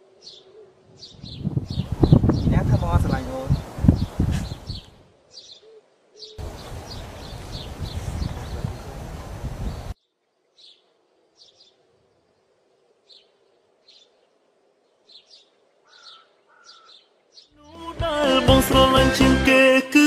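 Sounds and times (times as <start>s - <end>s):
small birds chirping: 0.2s - 17.7s.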